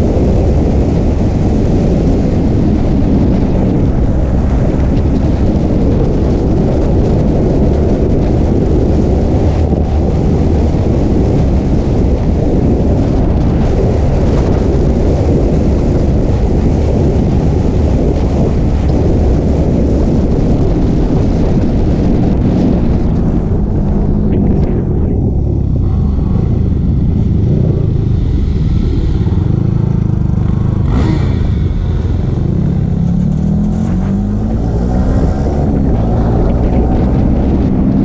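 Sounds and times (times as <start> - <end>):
motorcycle engine revving: 0.0 - 38.0
wind rushing on microphone: 0.0 - 38.0.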